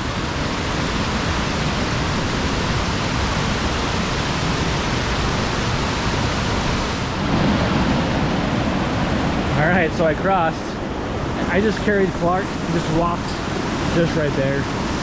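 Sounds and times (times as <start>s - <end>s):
mountain creek rushing: 0.0s - 15.0s.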